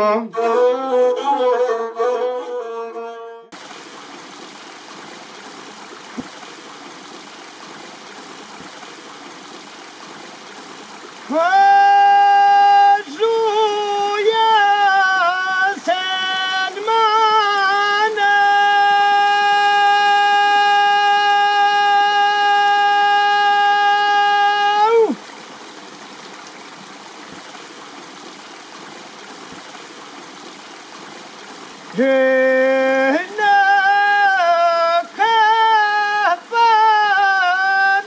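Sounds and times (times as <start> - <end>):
stream rushing: 3.6 - 38.0.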